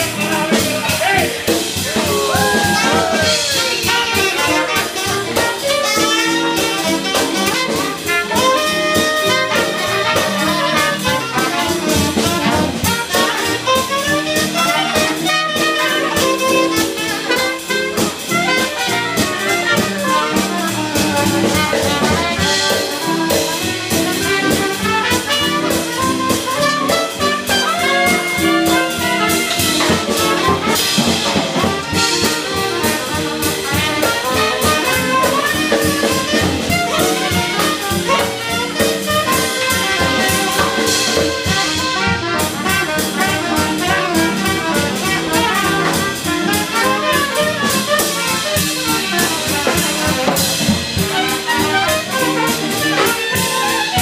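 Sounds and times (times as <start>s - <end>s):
jazz band playing: 0.0s - 54.0s
saxophone: 0.0s - 54.0s
trumpet: 0.0s - 54.0s.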